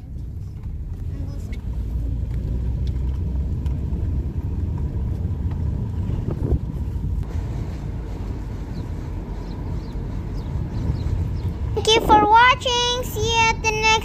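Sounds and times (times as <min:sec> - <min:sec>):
car road rumble and engine drone: 0:00.0 - 0:14.0.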